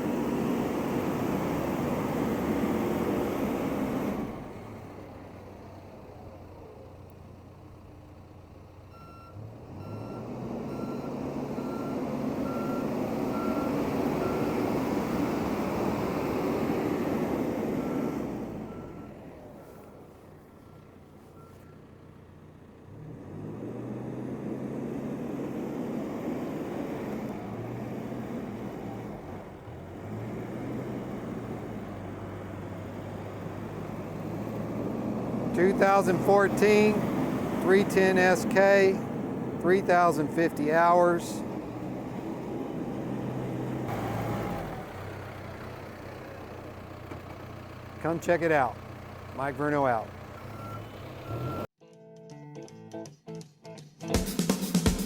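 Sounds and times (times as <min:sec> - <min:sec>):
diesel engine revving: 0:00.0 - 0:51.7.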